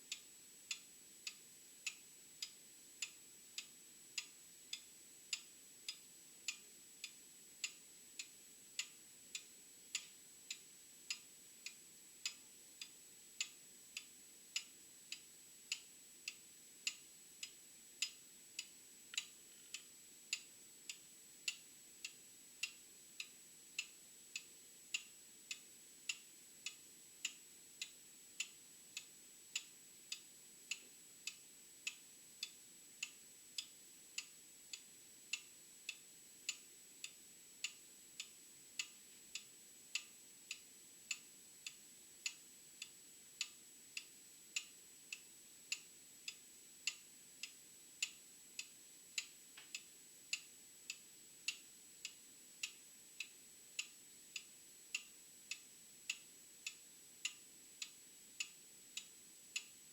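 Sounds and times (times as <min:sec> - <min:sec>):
mechanical clock ticking: 0:00.1 - 0:59.8.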